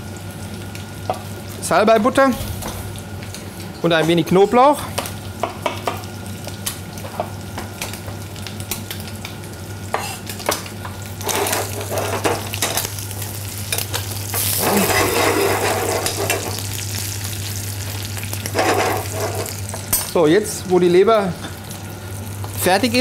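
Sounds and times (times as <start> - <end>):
liver sizzling in a frying pan: 0.0 - 23.0.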